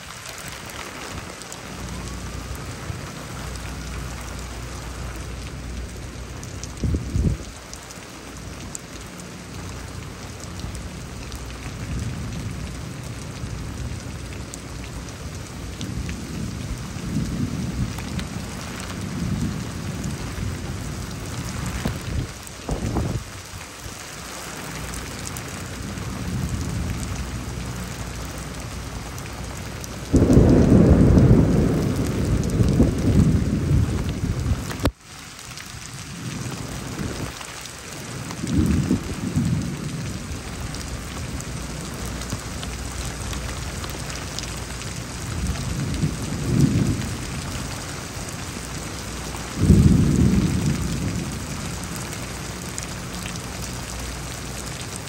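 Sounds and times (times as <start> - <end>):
thunder rumbling: 0.0 - 7.9, 9.7 - 24.1, 24.8 - 34.9, 35.5 - 55.0
heavy rain falling: 0.0 - 55.0.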